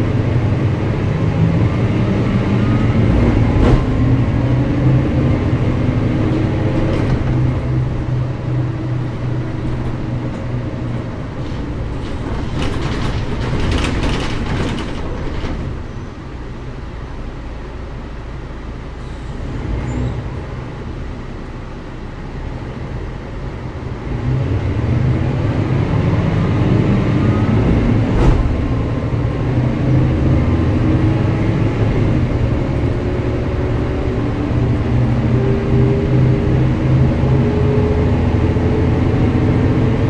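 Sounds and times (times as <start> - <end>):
bus engine accelerating: 0.0 - 40.0.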